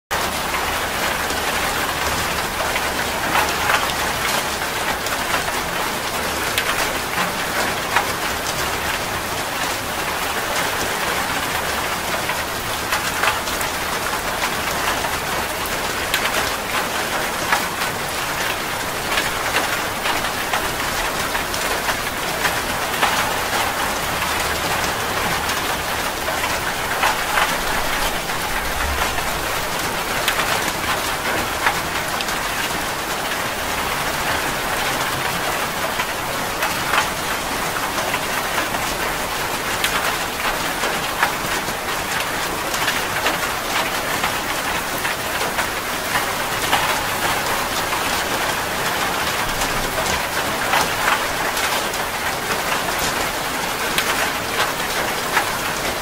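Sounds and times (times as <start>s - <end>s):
heavy rain falling: 0.1s - 56.0s.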